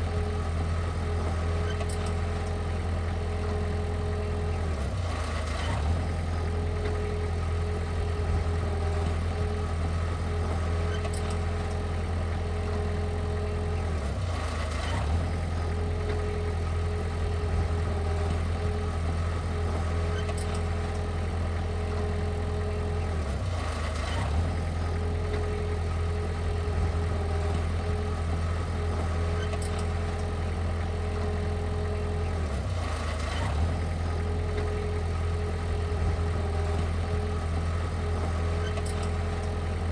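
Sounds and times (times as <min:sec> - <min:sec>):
heavy equipment engine humming: 0:00.0 - 0:39.9.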